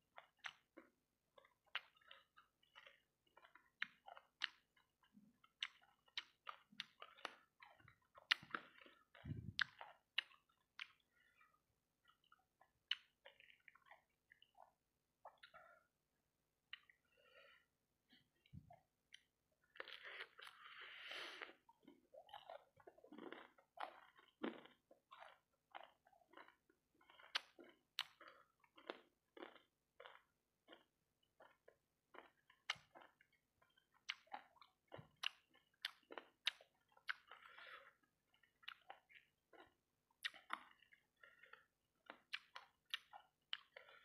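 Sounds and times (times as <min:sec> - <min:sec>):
chewing and crunching: 0:00.0 - 0:16.0, 0:16.7 - 0:17.2, 0:18.2 - 0:44.0.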